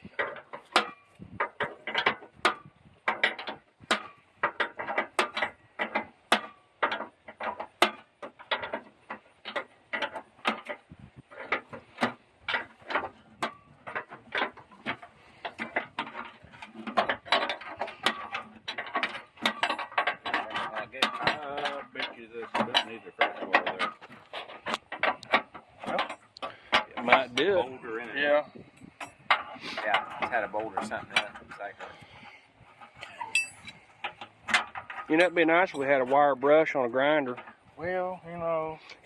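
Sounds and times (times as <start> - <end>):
metallic clicks and clanks of tools: 0.0 - 37.7.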